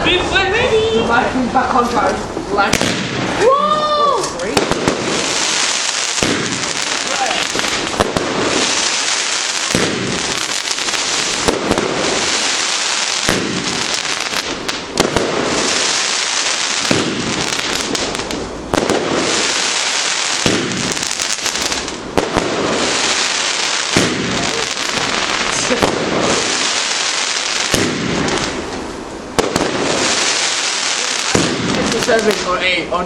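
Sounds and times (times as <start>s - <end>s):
dense firework crackle: 1.7s - 33.0s
firework cake shots: 2.0s - 32.8s.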